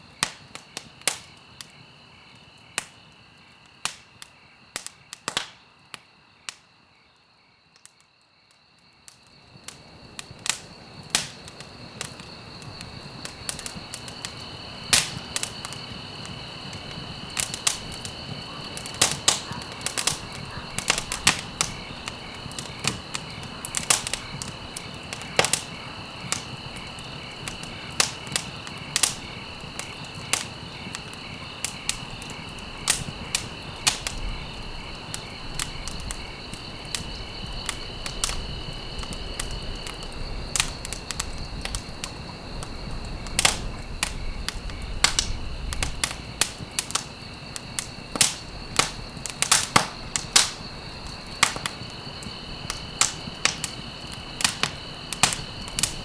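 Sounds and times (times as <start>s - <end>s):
wood fire crackling: 0.0s - 6.6s, 9.0s - 56.0s.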